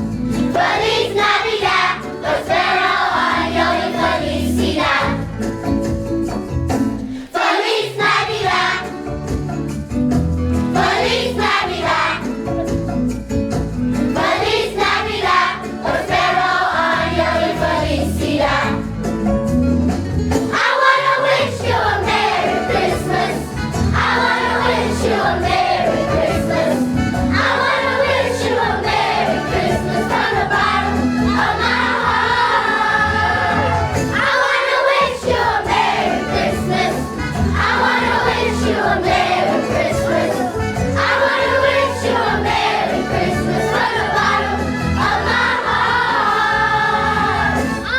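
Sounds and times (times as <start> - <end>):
instrumental accompaniment with bass: 0.0 - 47.9
choir singing: 0.4 - 5.3, 7.0 - 9.0, 10.6 - 12.4, 14.0 - 18.9, 20.4 - 47.9.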